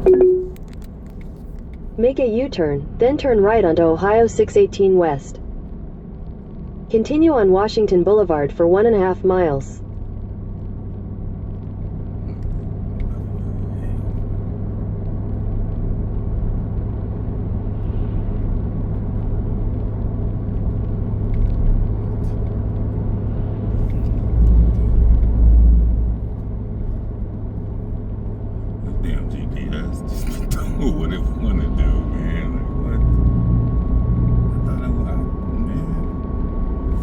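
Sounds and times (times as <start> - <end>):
deep rumble: 0.0 - 37.0
vehicle engine drone: 0.0 - 37.0.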